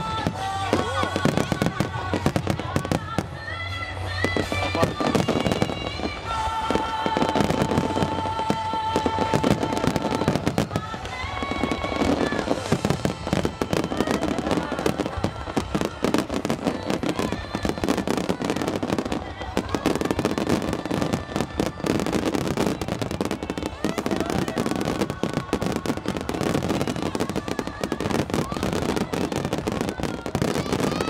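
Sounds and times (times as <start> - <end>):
fireworks bursting and crackling: 0.0 - 31.0.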